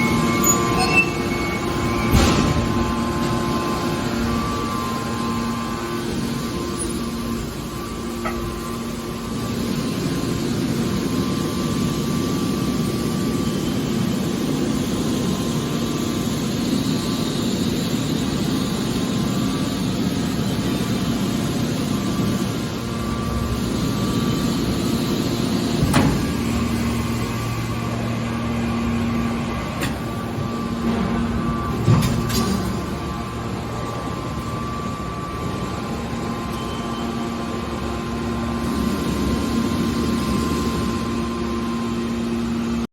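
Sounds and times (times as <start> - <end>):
hydraulic baler humming: 0.0 - 42.8.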